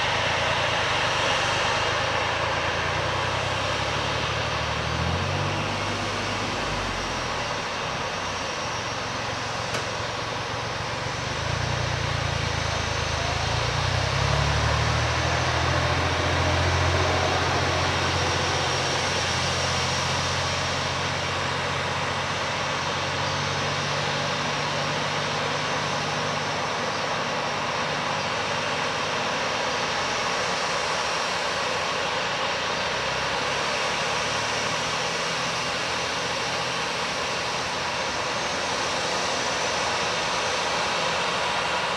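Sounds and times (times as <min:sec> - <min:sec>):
aircraft engines rumbling: 0:00.0 - 0:41.9.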